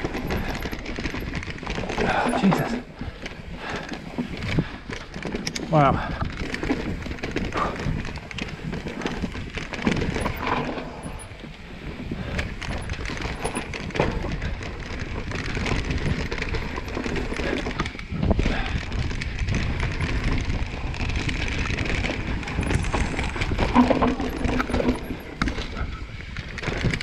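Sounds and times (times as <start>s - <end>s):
bike rattling clicks and knocks: 0.0s - 27.0s
bike tyres on dirt: 0.0s - 27.0s
wind rumble on microphone: 0.0s - 27.0s.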